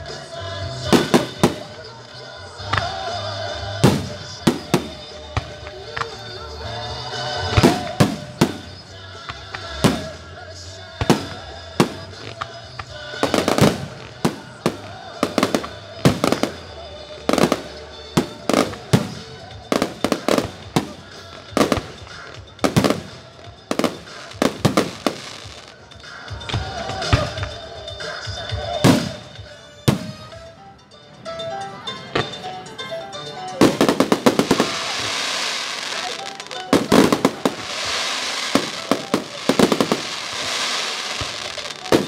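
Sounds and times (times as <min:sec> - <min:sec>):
music playing: 0:00.0 - 0:42.0.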